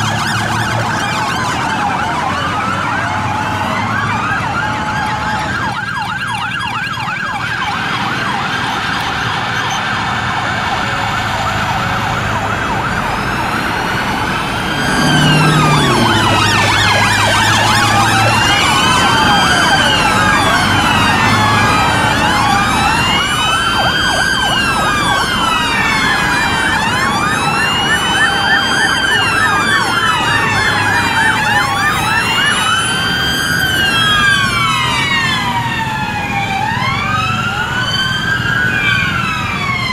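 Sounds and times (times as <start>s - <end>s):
police sirens wailing: 0.0s - 39.9s
police sirens yelping: 0.0s - 39.9s.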